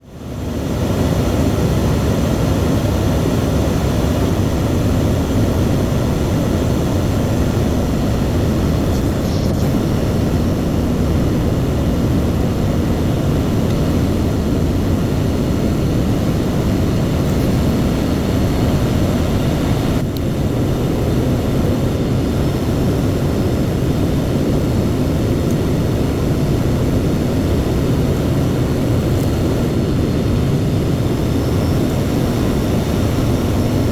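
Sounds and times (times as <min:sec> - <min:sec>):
airliner engine and airflow rush: 0:00.0 - 0:33.9.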